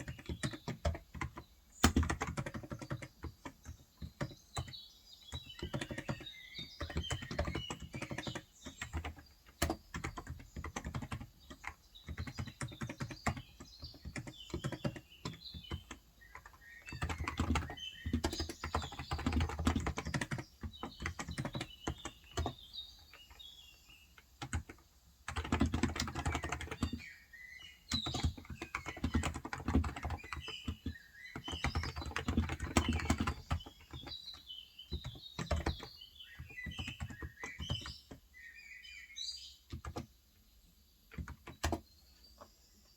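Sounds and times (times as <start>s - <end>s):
typing on keyboard: 0.0s - 23.5s, 24.1s - 38.3s, 39.6s - 40.2s, 41.0s - 42.5s
small birds chirping: 0.0s - 42.9s.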